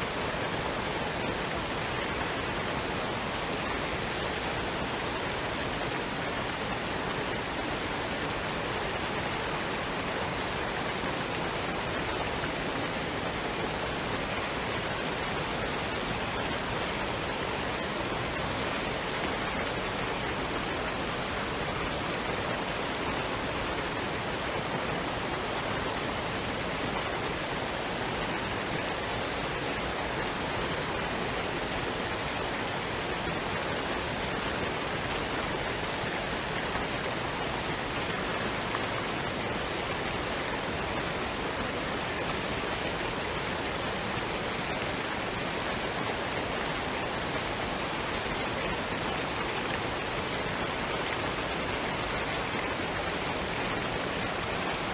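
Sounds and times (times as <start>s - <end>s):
waterfall and stream rushing: 0.0s - 54.9s.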